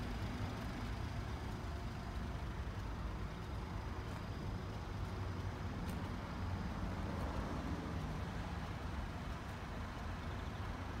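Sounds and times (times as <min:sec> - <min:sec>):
small truck engine idling: 0:00.0 - 0:11.0.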